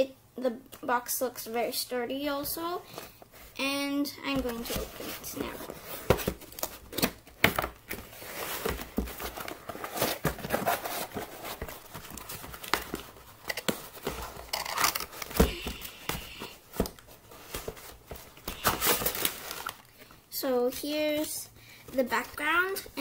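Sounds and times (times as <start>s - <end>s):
cardboard rustling and crinkling: 2.8s - 23.0s.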